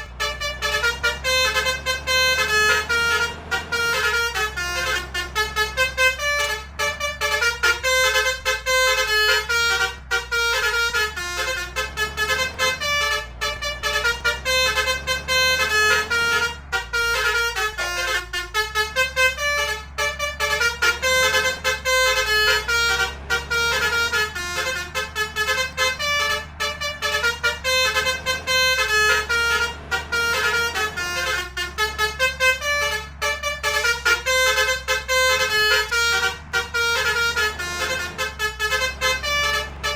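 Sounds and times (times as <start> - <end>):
bus horn playing a tune: 0.0 - 39.9.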